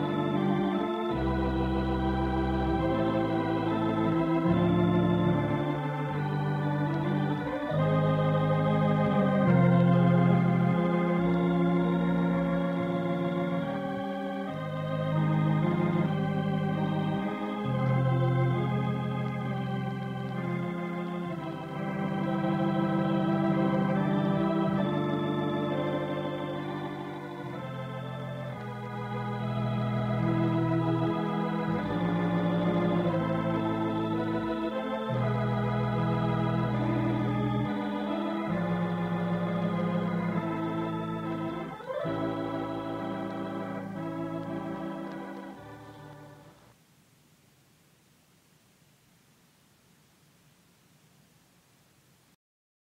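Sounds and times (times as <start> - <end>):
organ playing slow chords: 0.0 - 46.7.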